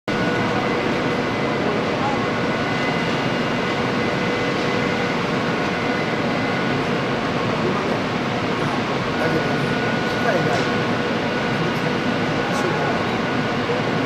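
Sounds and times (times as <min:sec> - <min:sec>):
machinery hum: 0:00.1 - 0:14.0
ventilation noise: 0:00.1 - 0:14.0.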